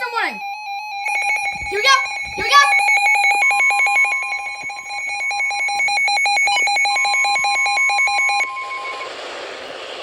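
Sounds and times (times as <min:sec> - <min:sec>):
rapid pulsing alarm beep: 0:00.0 - 0:09.2
steady alarm tone: 0:00.0 - 0:09.4.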